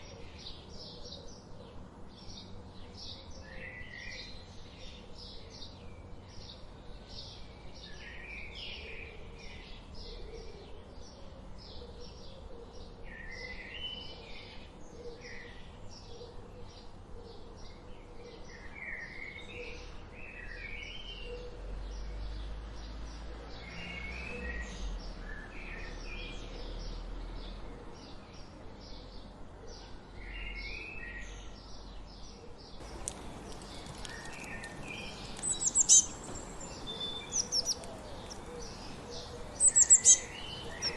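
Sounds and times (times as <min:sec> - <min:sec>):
birds warbling song: 0:00.0 - 0:40.9
small birds chirping: 0:00.0 - 0:40.9.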